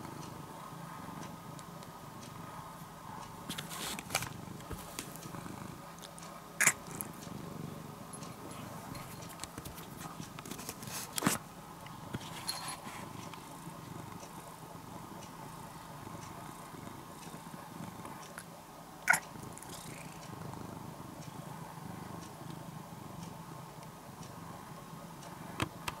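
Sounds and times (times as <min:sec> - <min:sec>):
cat purring: 0:00.0 - 0:11.1, 0:11.8 - 0:23.6.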